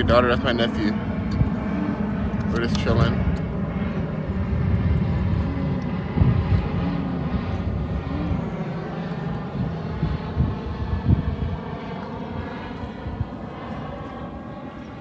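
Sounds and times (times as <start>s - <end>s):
propeller aircraft engine droning: 0.0s - 15.0s
wind rumble on microphone: 0.0s - 15.0s.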